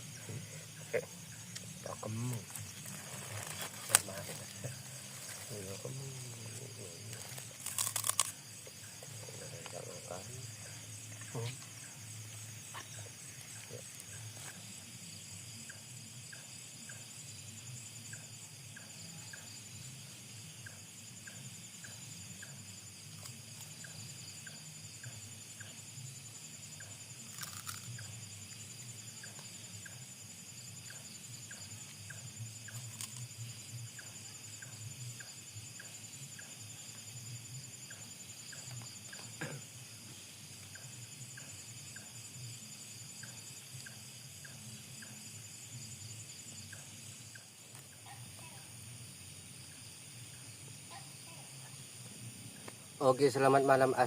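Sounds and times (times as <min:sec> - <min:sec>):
night insects chirping: 0:00.0 - 0:54.0.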